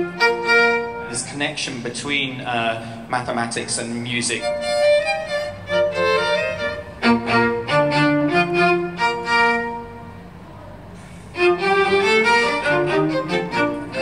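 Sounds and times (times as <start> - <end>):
string quartet playing: 0.0 - 14.0.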